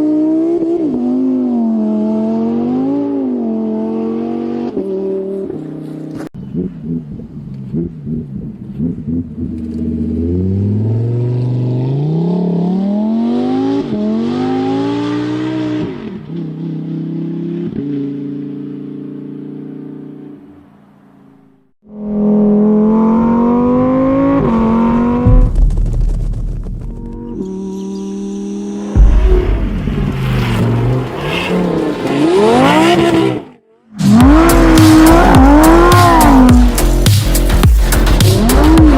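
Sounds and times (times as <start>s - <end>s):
sports car engine accelerating: 0.0s - 20.4s, 21.9s - 25.5s, 26.8s - 38.9s.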